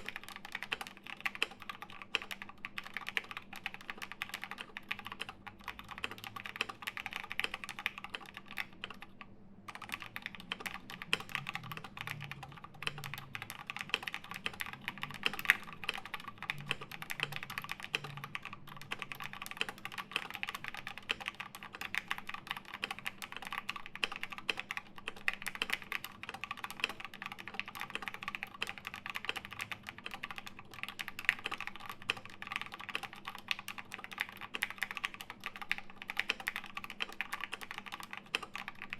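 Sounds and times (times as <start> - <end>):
faint steady hum: 0.0 - 38.9
mechanical keyboard typing: 0.0 - 38.9.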